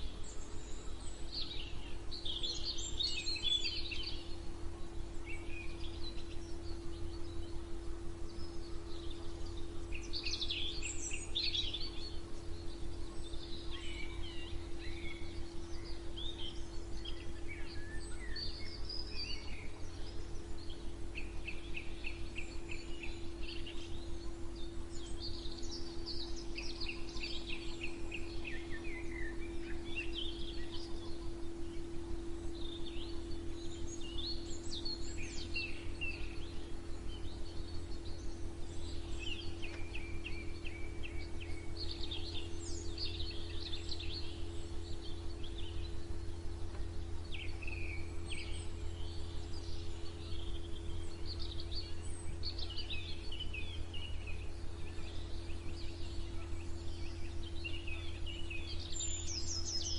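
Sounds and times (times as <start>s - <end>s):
low hum and rumble: 0.0s - 59.9s
songbirds singing and chirping: 0.0s - 59.9s.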